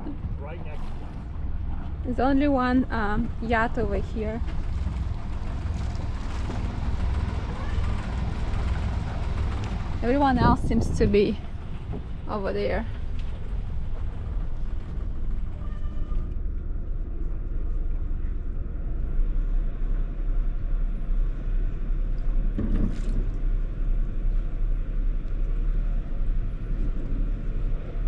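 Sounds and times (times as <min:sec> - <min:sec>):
boat engine rumble: 0:00.0 - 0:28.0
wind buffeting microphone: 0:00.0 - 0:28.0.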